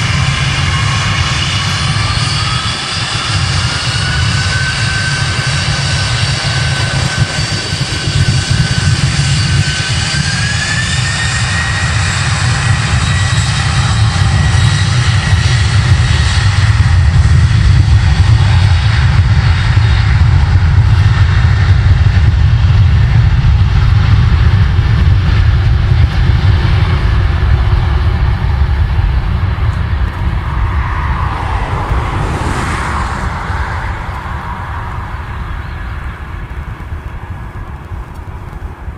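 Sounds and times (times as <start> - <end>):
jet engines running loud: 0.0 - 38.9.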